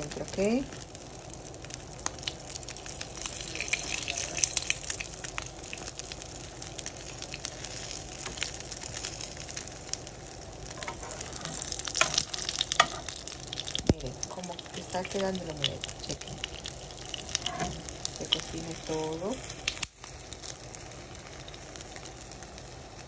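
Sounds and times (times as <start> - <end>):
oil sizzling in a frying pan: 0.0 - 23.0.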